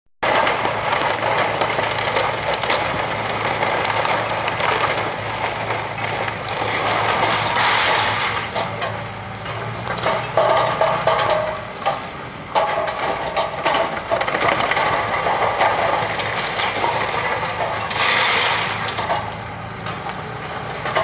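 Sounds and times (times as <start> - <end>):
debris knocking and clattering: 0.2 - 20.2, 20.8 - 21.0
excavator diesel engine running: 0.2 - 21.0.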